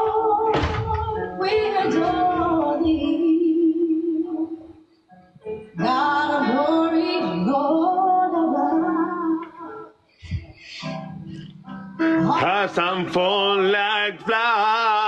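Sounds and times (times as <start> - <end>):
person singing a song: 0.0 - 4.7, 5.8 - 11.1, 12.2 - 15.0.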